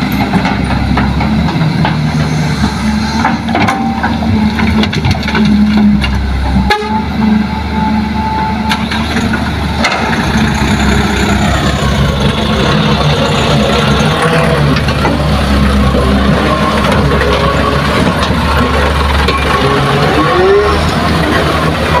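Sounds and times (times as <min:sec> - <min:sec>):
diesel engines running: 0:00.0 - 0:22.0.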